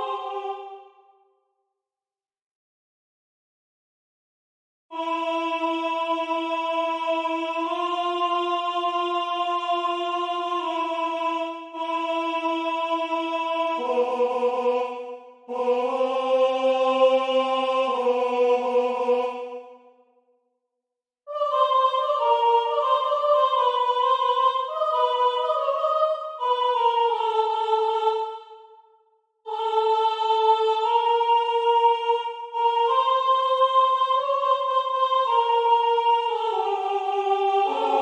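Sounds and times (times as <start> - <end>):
unaccompanied voices singing: 0.0 - 1.1, 4.9 - 20.0, 21.3 - 28.7, 29.5 - 38.0.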